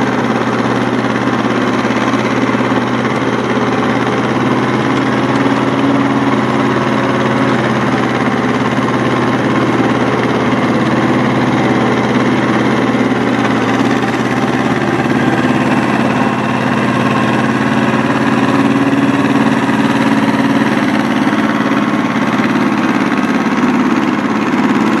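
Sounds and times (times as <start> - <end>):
rotary tiller churning soil: 0.0 - 25.0
tractor engine running under load: 0.0 - 25.0.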